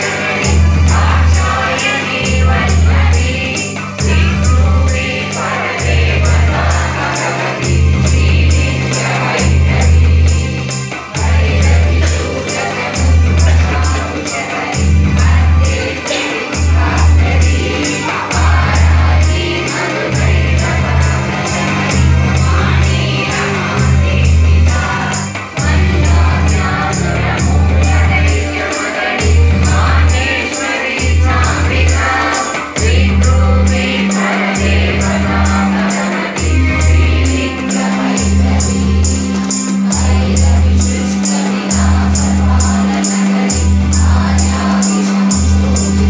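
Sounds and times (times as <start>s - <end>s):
group singing a devotional song: 0.0s - 46.0s
deep pulsing beat: 0.3s - 46.0s.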